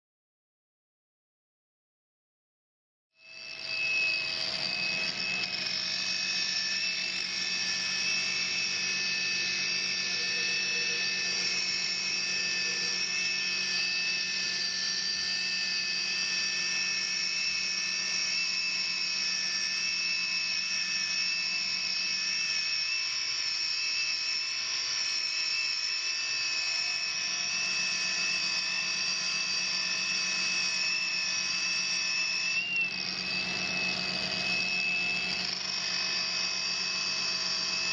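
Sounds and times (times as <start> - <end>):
stone polisher motor whine: 3.2 - 37.9.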